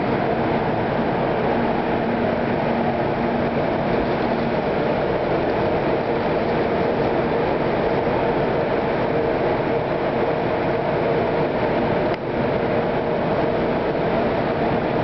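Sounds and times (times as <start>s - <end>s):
trains rumbling: 0.0s - 15.0s.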